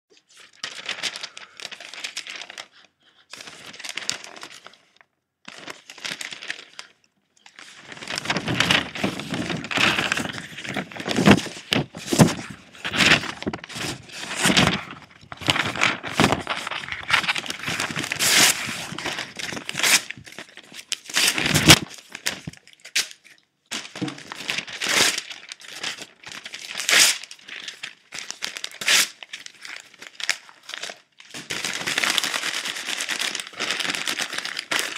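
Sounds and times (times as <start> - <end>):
crinkling and crackling: 0.1 - 34.9.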